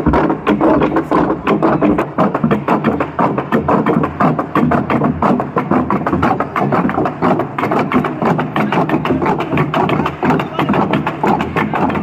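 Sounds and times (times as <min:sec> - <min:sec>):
drums beaten in fast rhythm: 0:00.0 - 0:12.0.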